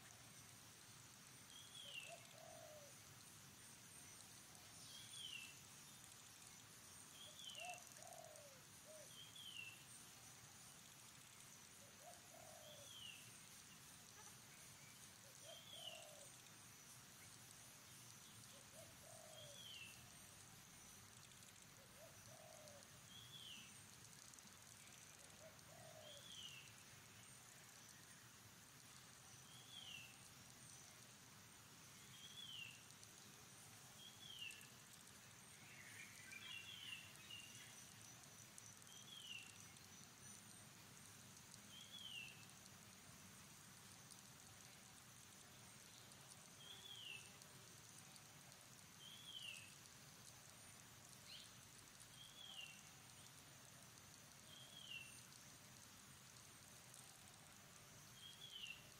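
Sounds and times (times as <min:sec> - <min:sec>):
steady high hiss: 0:00.0 - 0:58.9.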